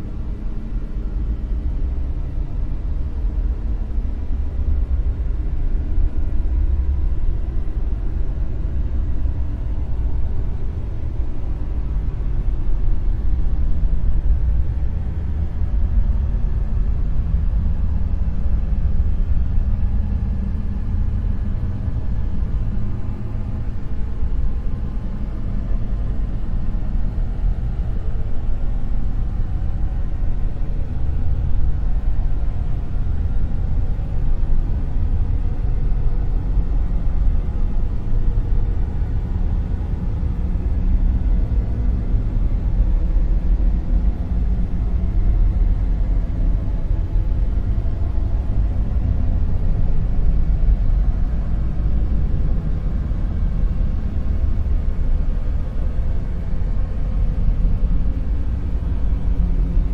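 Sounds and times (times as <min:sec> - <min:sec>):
deep bass rumble noise: 0:00.0 - 0:59.9.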